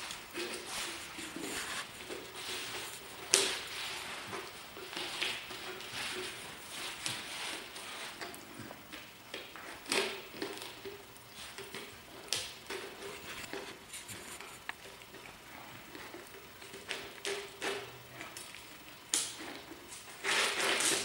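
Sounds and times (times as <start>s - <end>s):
dog licking and gnawing: 0.0s - 21.0s.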